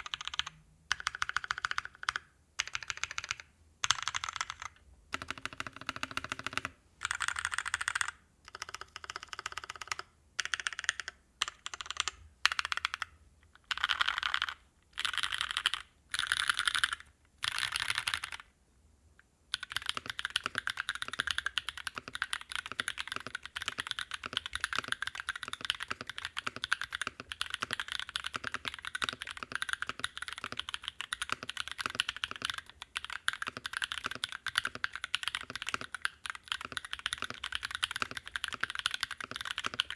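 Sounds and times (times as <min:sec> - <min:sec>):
mechanical keyboard typing: 0:00.0 - 0:18.5, 0:19.5 - 0:39.9.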